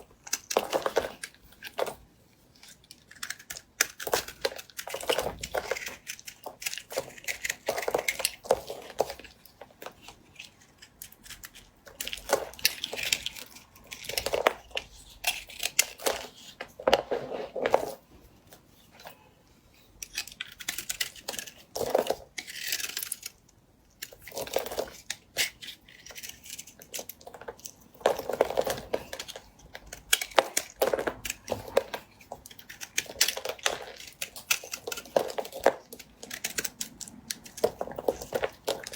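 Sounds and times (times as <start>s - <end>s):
knife scraping bar soap: 0.0s - 18.0s, 19.8s - 38.9s.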